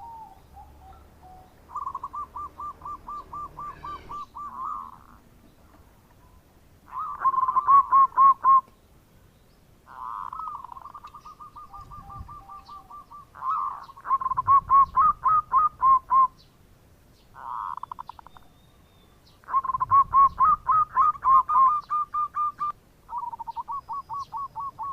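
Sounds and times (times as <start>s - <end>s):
dove cooing with trills: 0.0s - 5.8s, 6.8s - 8.8s, 9.9s - 16.4s, 17.4s - 18.5s, 19.4s - 24.9s.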